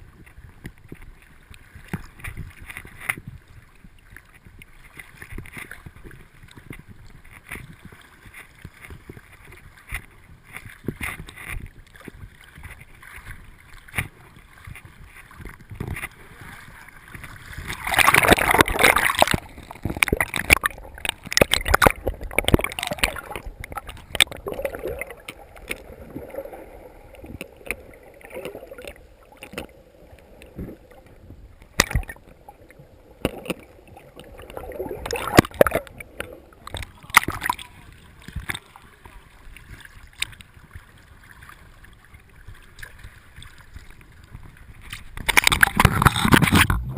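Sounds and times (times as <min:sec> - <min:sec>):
water splashing around boat: 0:00.0 - 0:46.9.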